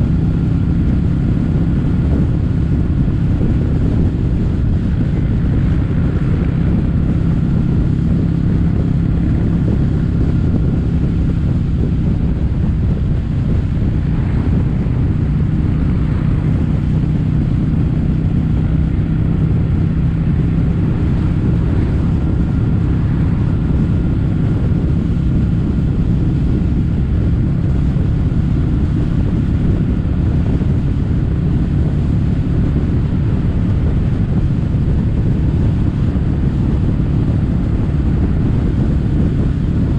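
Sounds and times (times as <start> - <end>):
motorcycle engine cruising: 0.0 - 39.9
wind on microphone: 0.0 - 39.9.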